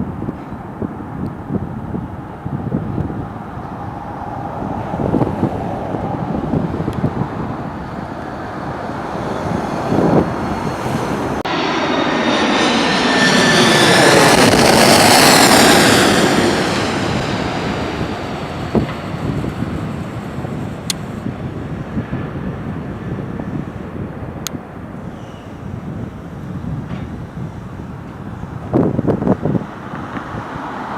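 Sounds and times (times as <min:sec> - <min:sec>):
jet airliner passing: 0:00.0 - 0:30.9
wind buffeting microphone: 0:00.0 - 0:30.9.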